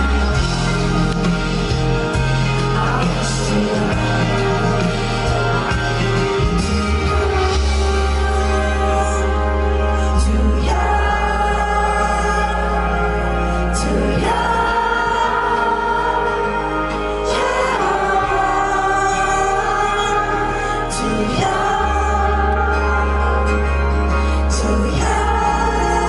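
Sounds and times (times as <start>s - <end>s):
steady bass: 0.0s - 26.0s.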